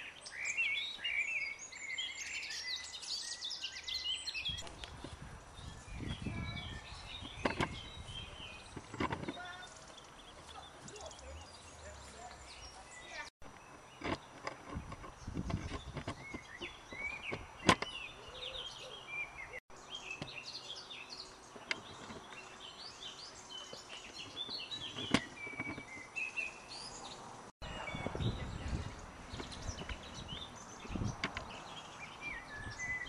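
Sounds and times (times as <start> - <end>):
birds chirping and singing: 0.0 - 33.0.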